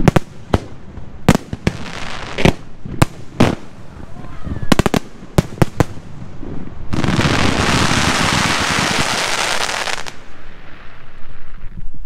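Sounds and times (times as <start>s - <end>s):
firework bangs: 0.0s - 11.8s
fireworks hissing: 0.0s - 11.8s.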